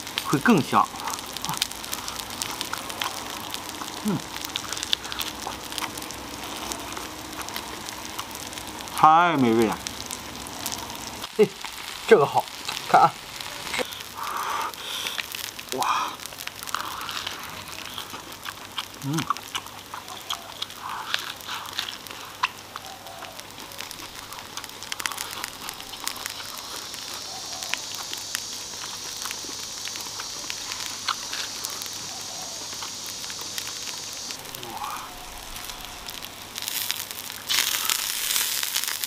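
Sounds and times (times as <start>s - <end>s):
meat sizzling on a grill: 0.0s - 39.0s
sharp fat crackles: 0.0s - 39.0s.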